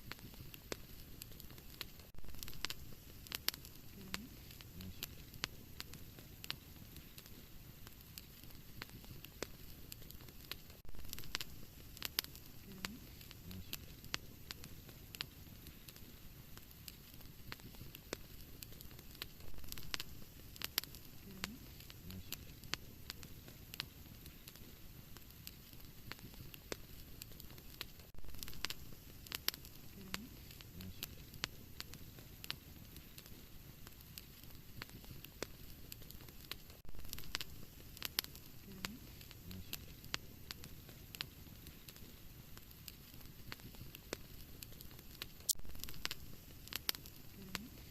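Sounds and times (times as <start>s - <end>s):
hiss of fire flames: 0.0s - 47.9s
wood fire crackling and popping: 0.0s - 47.9s.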